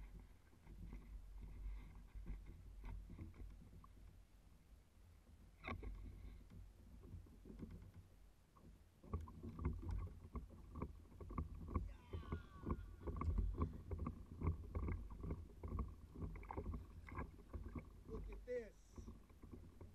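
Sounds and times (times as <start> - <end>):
waves slapping against a kayak hull: 0.0 - 4.6, 5.2 - 19.9.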